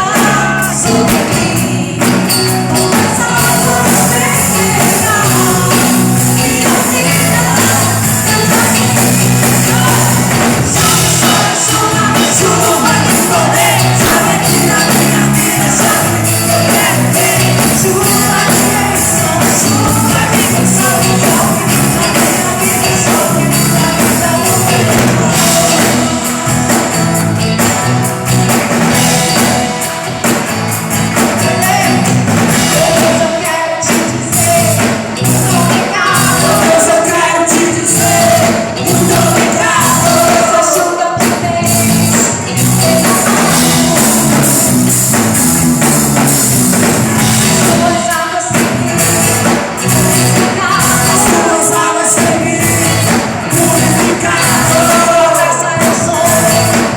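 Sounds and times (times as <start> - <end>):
gospel band playing: 0.0 - 56.9
people singing: 0.0 - 56.9.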